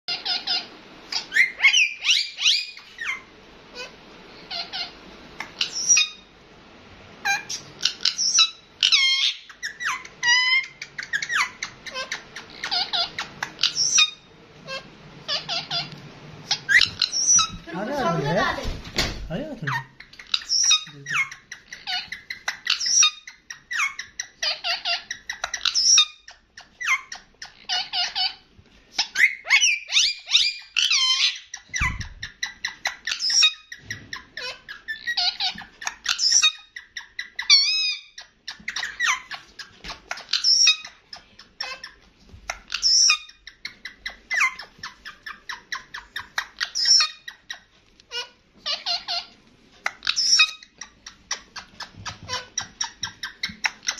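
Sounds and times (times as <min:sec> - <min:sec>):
parakeet squeaks and chirps: 0:00.1 - 0:06.3, 0:07.2 - 0:18.5, 0:19.6 - 0:53.9
parakeet warbling calls: 0:00.1 - 0:06.3, 0:07.2 - 0:18.5, 0:19.6 - 0:28.4, 0:29.0 - 0:53.9.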